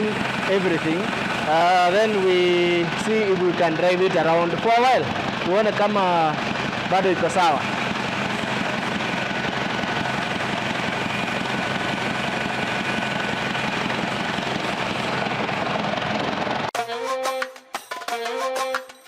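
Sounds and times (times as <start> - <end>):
car engine idling roughly: 0.0 - 16.7.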